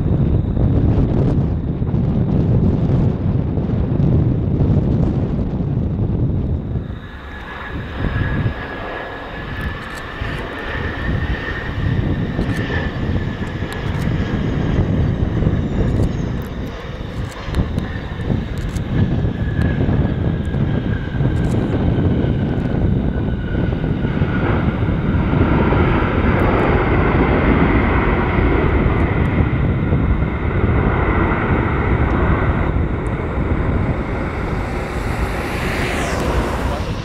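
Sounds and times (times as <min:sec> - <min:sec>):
falling jet whine: 0:00.0 - 0:37.0
jet engine roar: 0:00.0 - 0:37.0.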